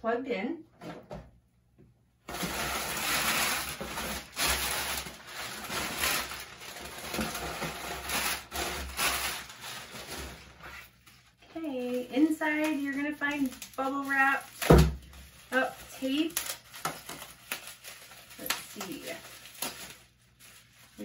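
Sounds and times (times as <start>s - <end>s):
packing material rustling: 2.3s - 21.0s.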